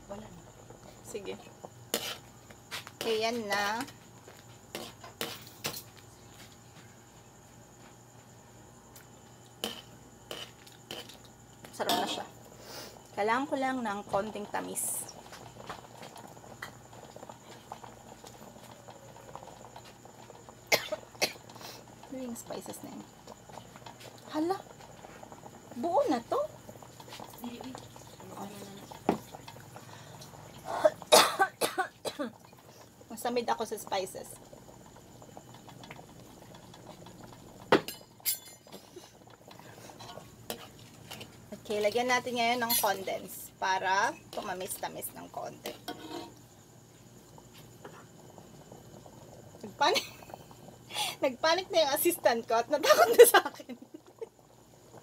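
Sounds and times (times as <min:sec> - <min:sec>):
sauce simmering and popping: 0:08.8 - 0:31.1, 0:31.9 - 0:55.0.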